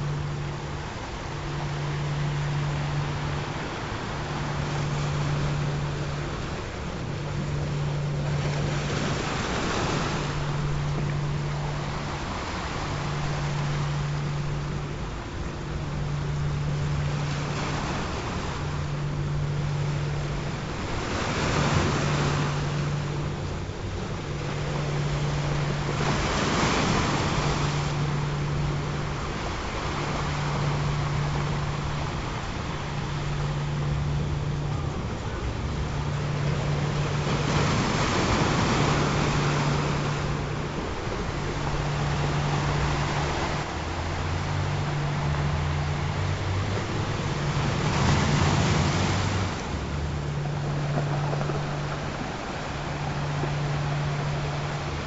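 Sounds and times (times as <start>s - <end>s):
ocean surf washing in: 0.0s - 55.0s
steady low hum-like tone: 0.0s - 55.0s.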